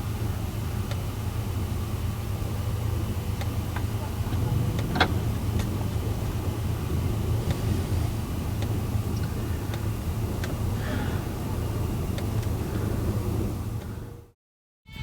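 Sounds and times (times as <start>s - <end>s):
vehicle engine rumble: 0.0s - 14.4s.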